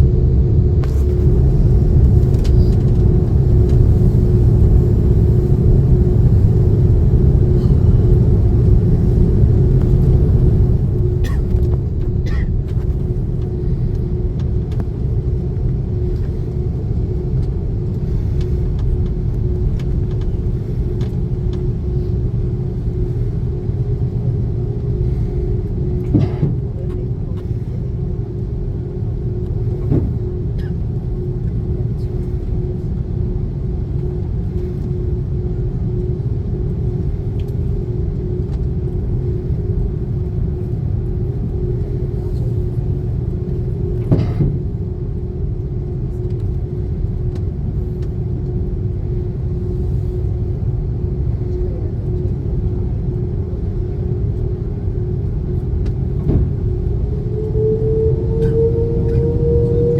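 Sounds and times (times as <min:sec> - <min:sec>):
airliner cabin engine rumble: 0:00.0 - 0:59.9
constant hum: 0:00.0 - 0:59.9.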